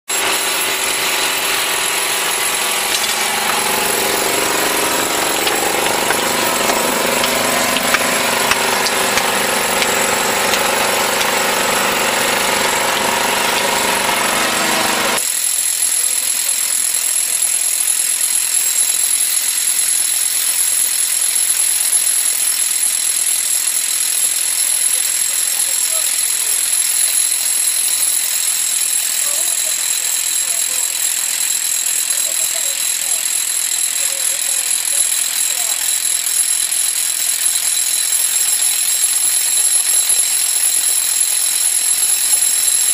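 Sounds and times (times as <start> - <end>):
hammer drill boring into rock: 0.1 - 42.9.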